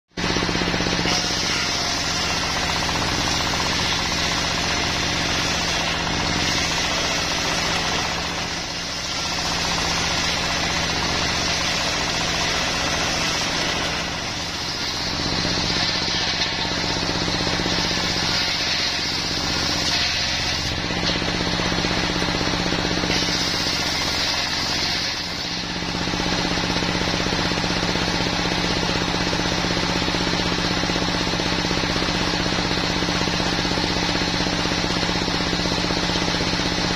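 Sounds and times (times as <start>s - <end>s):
diesel engine running: 0.1s - 36.9s
circular saw cutting log: 0.2s - 36.9s.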